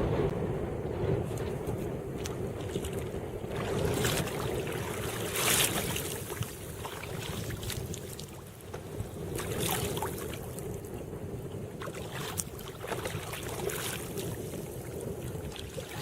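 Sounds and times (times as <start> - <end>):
wind rumbling on microphone: 0.0 - 16.0
water splashes: 1.3 - 16.0.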